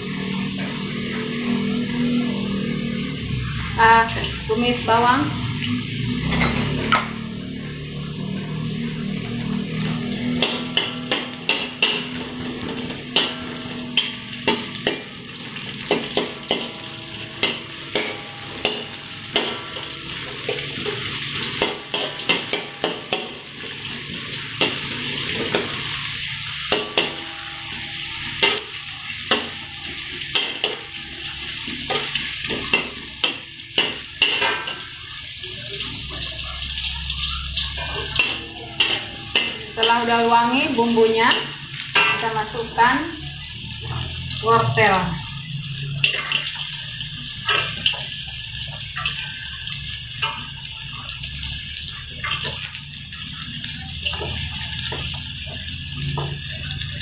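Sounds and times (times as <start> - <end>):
shallots and garlic sizzling in oil: 0.0 - 57.0.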